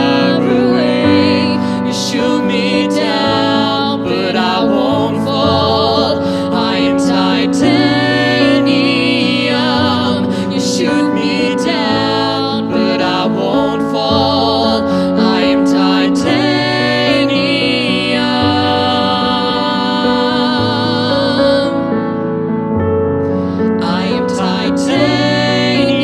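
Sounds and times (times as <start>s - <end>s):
man and woman singing: 0.0s - 22.1s, 23.5s - 26.0s.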